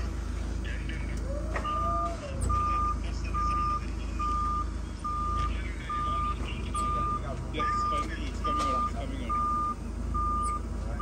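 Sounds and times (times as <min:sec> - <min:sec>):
forklift engine running: 0:00.0 - 0:11.0
forklift backup alarm beeping: 0:01.1 - 0:10.8.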